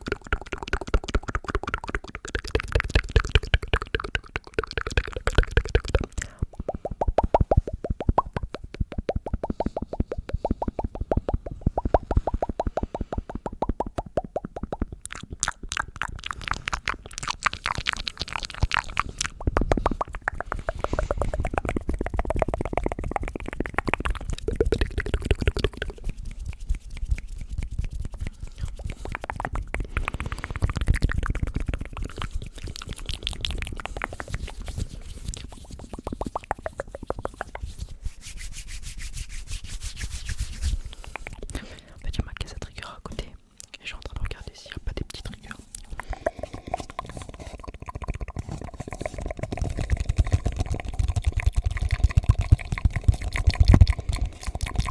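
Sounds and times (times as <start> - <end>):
wet mouth clicks and smacks: 0.0 - 54.9.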